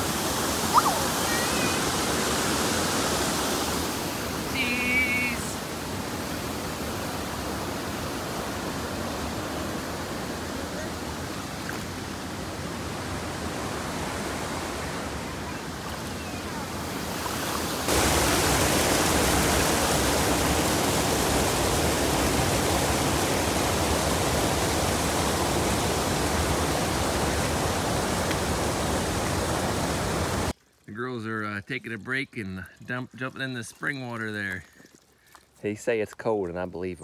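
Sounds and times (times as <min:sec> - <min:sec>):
falling water rushing: 0:00.0 - 0:35.4.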